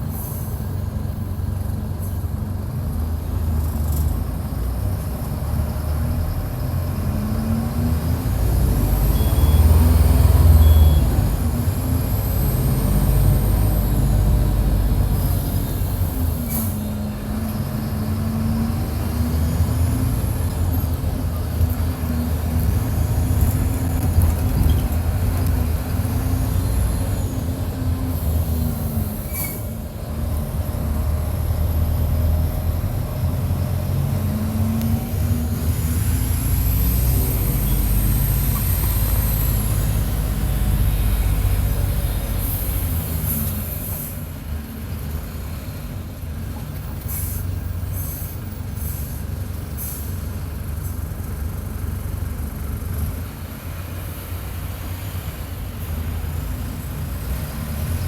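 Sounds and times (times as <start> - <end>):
bus diesel engine under load: 0.0 - 58.0.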